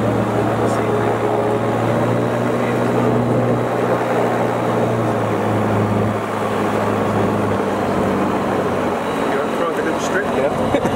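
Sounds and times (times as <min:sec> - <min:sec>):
light aircraft engine and propeller: 0:00.0 - 0:10.9.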